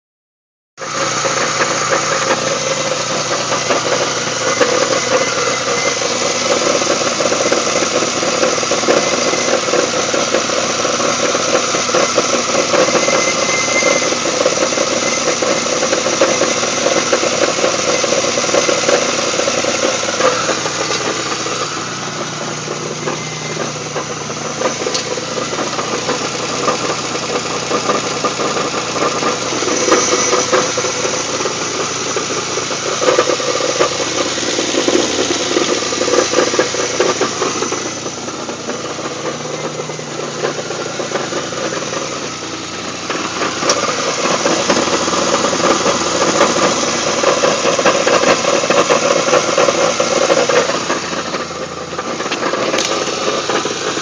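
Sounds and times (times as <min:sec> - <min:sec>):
car engine rattling: 0:00.8 - 0:54.0.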